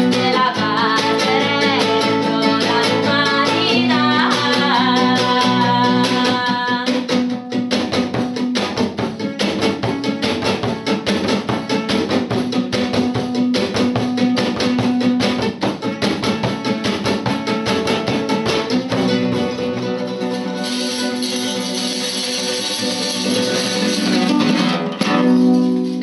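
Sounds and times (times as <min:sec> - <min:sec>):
acoustic guitar strumming: 0:00.0 - 0:26.0
frame drum: 0:00.0 - 0:26.0.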